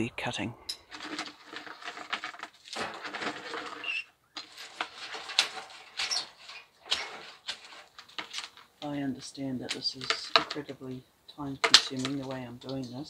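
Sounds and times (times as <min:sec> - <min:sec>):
dry seaweed crackling and rustling: 0:00.8 - 0:13.0.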